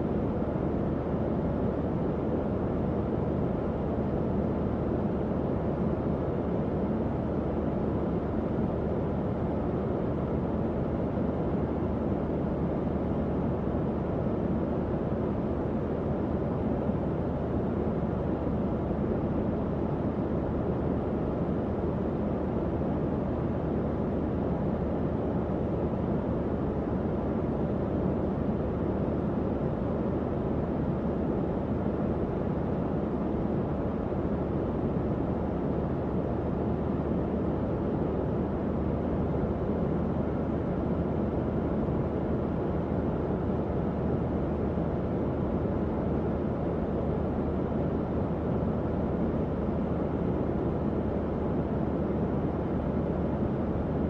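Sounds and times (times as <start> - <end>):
faint fan hum: 0.0 - 54.0
fan whoosh of moving air: 0.0 - 54.0.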